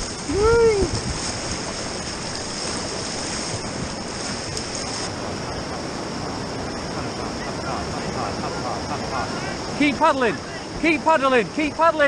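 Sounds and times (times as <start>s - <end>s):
whitewater roaring: 0.0s - 12.0s.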